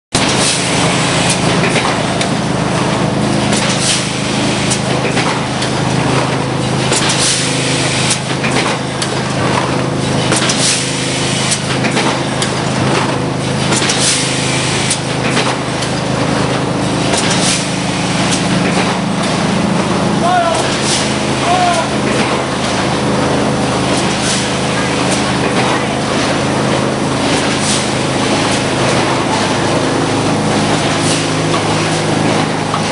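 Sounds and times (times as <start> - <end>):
loud machine hum: 0.1 - 32.9.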